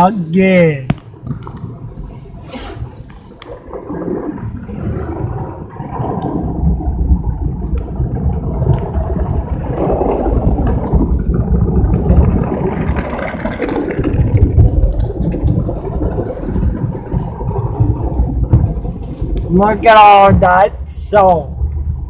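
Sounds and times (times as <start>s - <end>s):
car wash low rumble: 1.6s - 22.0s.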